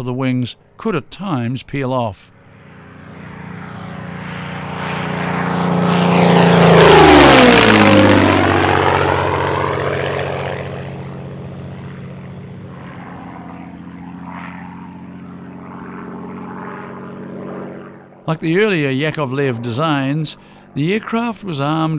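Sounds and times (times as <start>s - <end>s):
propeller aircraft flying past: 2.3s - 21.9s.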